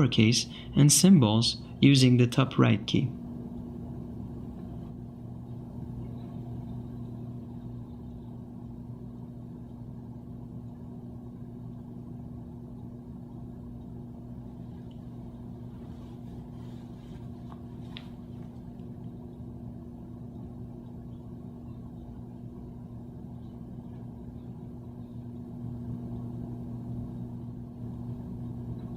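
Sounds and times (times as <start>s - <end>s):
low electrical hum: 0.0s - 28.9s
faint rumble: 3.1s - 28.9s.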